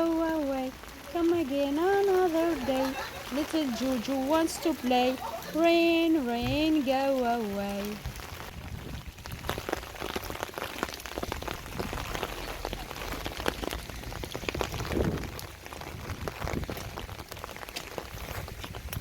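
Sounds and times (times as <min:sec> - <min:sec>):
rain drops on hard surface: 0:00.0 - 0:19.0.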